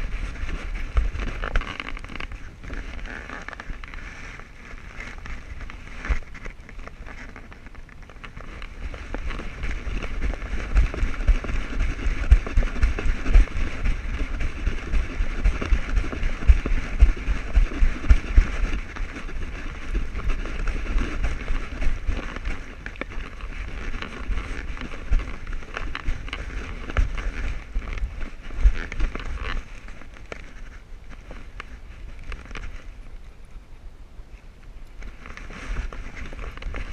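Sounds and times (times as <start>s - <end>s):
paws scuffing on gravel: 0.0s - 32.8s
camera thumping and rubbing: 0.0s - 33.0s, 35.0s - 36.9s
wind on microphone: 0.0s - 36.9s.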